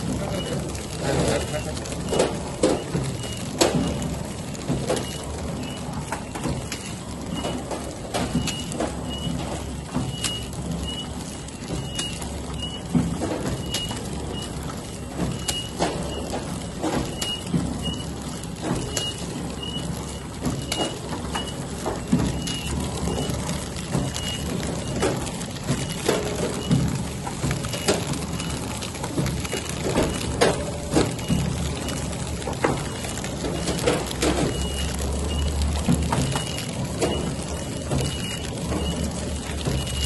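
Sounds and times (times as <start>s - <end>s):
packing machine hum: 0.0s - 40.0s.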